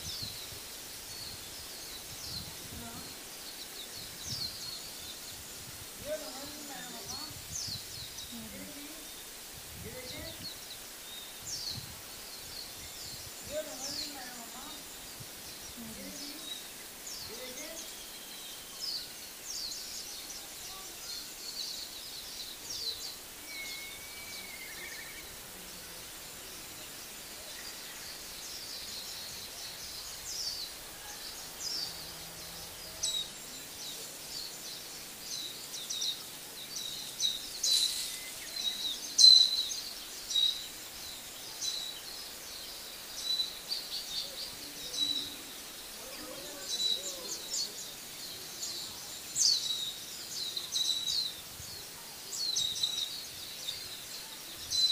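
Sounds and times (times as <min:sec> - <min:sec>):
faint outdoor background: 0:00.0 - 0:54.9
small birds chirping: 0:00.0 - 0:54.9.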